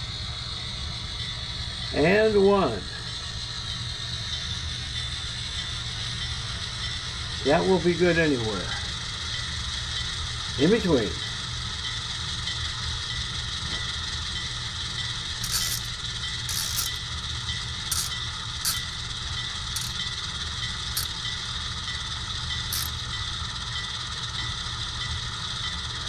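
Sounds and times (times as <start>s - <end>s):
model locomotive engine hum: 0.0s - 26.0s.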